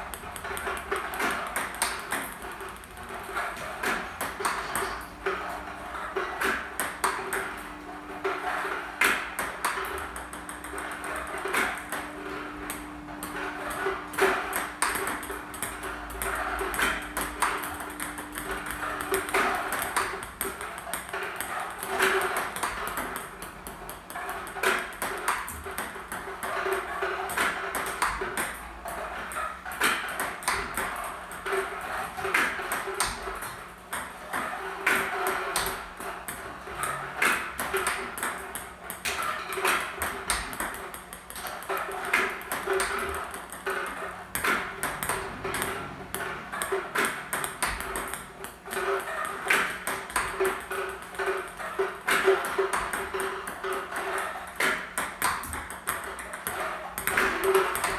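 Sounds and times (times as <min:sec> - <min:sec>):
table tennis ball hit with paddle: 0:00.0 - 0:57.9.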